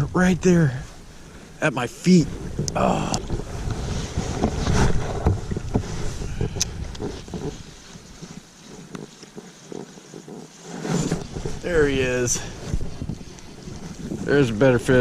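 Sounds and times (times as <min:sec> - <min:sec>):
wind buffeting microphone: 0:00.0 - 0:09.5, 0:11.0 - 0:15.0
steady outdoor rush: 0:00.0 - 0:15.0.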